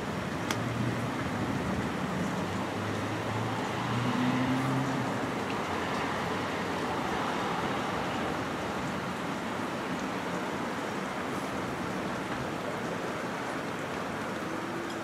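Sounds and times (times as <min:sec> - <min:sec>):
rain hiss: 0:00.0 - 0:15.0
traffic on wet roads: 0:00.0 - 0:15.0.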